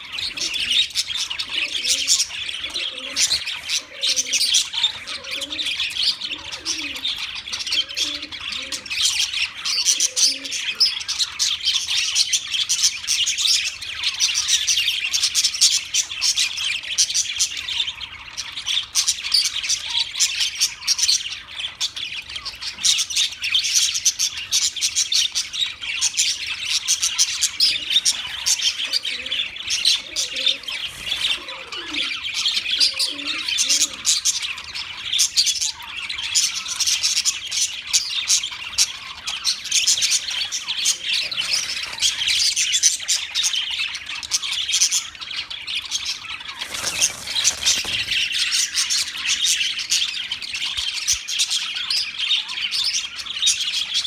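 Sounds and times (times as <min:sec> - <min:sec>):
lower bird calls: 0:00.0 - 0:12.2, 0:19.6 - 0:54.0
budgerigars chattering: 0:00.0 - 0:54.0.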